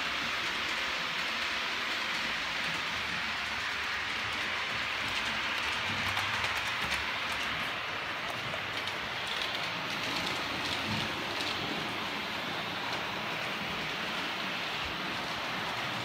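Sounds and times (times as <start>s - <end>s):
model trains whirring on track: 0.0s - 16.0s.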